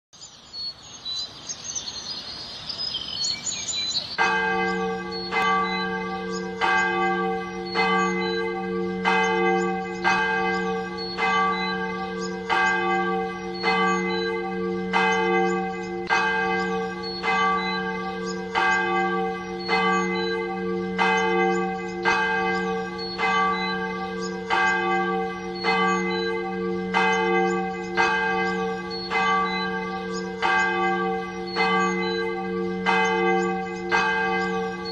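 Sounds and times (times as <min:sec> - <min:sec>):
church bells ringing: 0:04.2 - 0:34.9.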